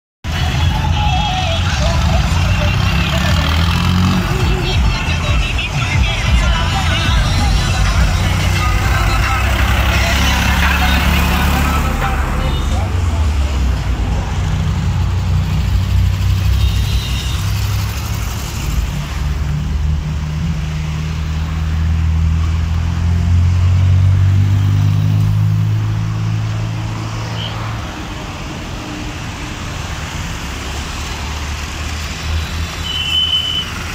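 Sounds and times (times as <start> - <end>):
vehicle engines passing: 0.3 - 33.9.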